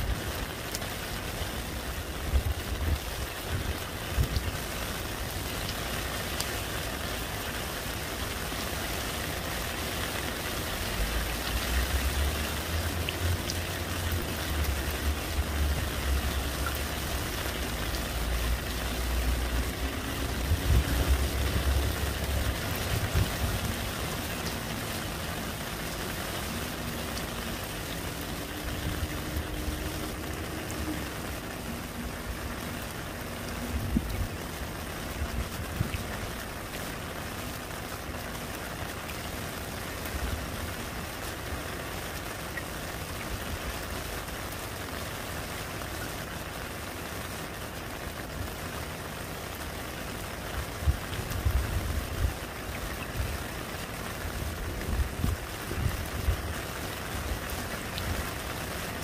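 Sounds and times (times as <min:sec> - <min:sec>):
rain splashing into puddle: 0:00.0 - 0:59.0.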